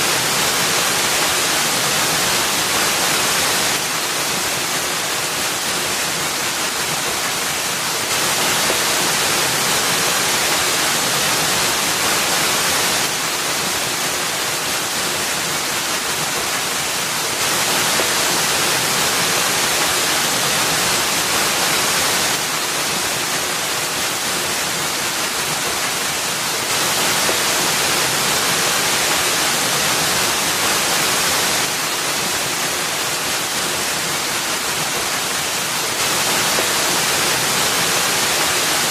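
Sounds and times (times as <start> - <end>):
waterfall pouring into pool: 0.0 - 38.9.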